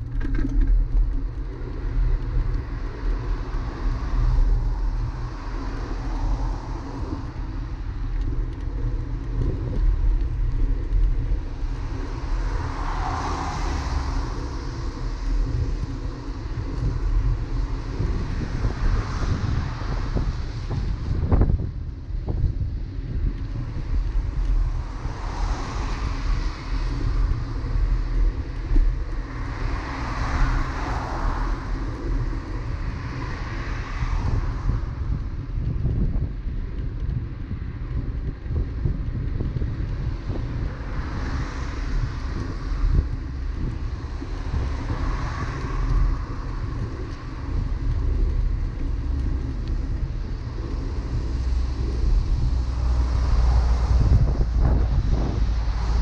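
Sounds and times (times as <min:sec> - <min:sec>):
traffic passing: 0:00.0 - 0:56.0
wind buffeting microphone: 0:00.0 - 0:56.0.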